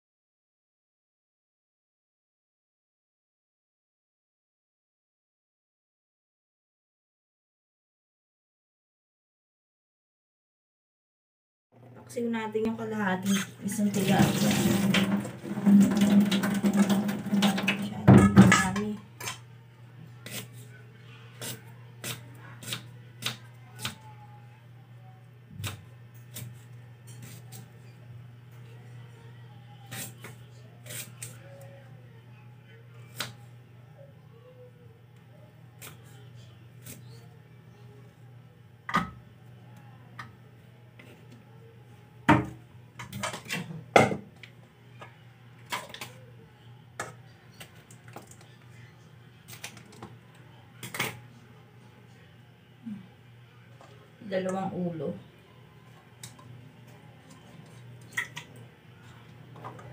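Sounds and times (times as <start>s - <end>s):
faint low hum: 11.8s - 59.9s.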